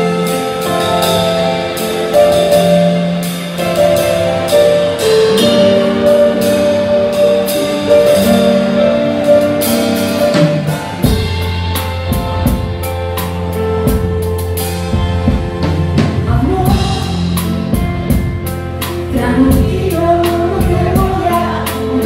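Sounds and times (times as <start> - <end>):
held keyboard chords: 0.0 - 22.0.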